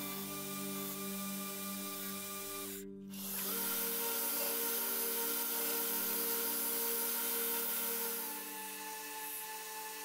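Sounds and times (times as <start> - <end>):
belt grinder motor hum: 0.0 - 10.0.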